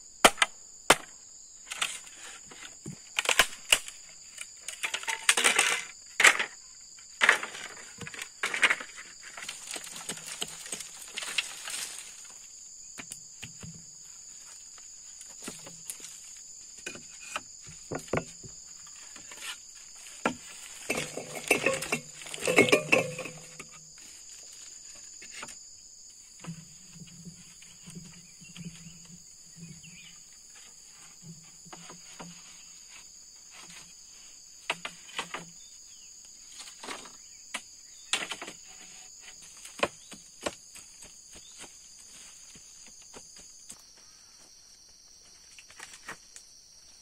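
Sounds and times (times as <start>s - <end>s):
insects chirring: 0.0s - 47.0s
bamboo poles knocking and clattering: 1.7s - 25.6s, 26.3s - 33.9s, 34.6s - 35.6s, 36.5s - 43.8s.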